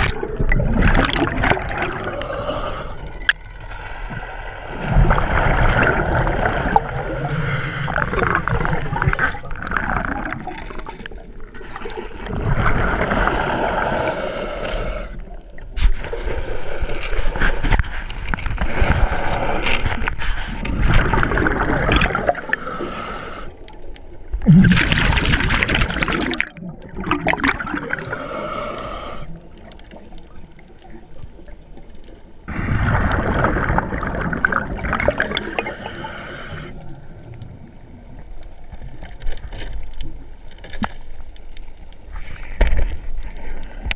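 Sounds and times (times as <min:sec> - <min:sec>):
diver breathing underwater bubbles: 0:00.0 - 0:31.4, 0:32.5 - 0:39.2.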